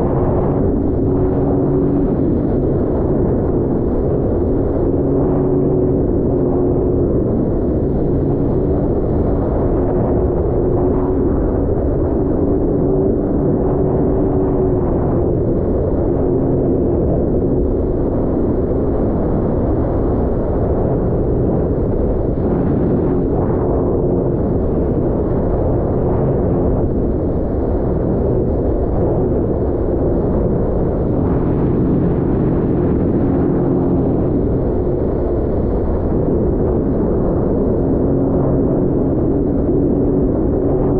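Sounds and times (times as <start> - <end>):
watercraft engine hum: 0.0 - 40.9
wind and water rumble: 0.0 - 40.9.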